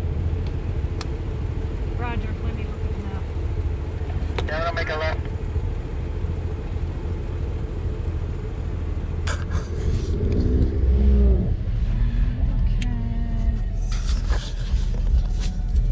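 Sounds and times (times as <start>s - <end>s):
vehicle engine running low: 0.0s - 15.9s.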